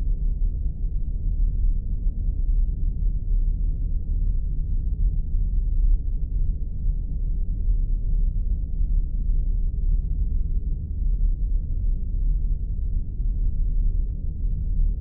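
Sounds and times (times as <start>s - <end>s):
deep bass rumble: 0.0s - 15.0s.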